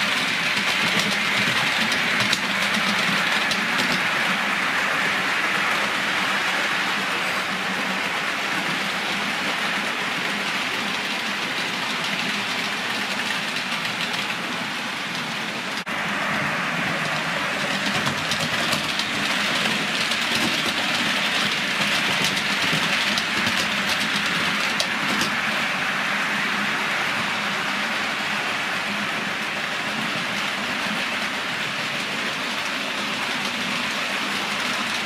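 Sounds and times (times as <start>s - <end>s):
model train running on track: 0.0s - 35.0s.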